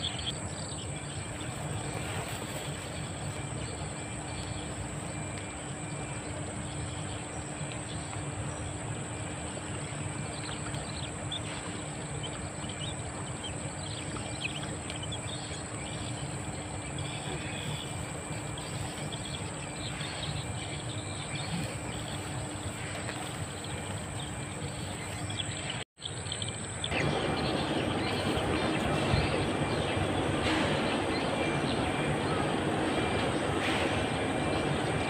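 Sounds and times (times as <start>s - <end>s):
faint bird chirps: 0.0s - 35.0s
steady low hum: 0.0s - 35.0s.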